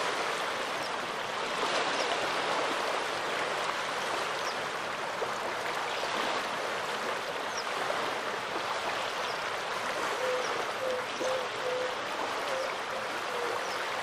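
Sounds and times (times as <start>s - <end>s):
small waves washing on beach: 0.0s - 14.0s.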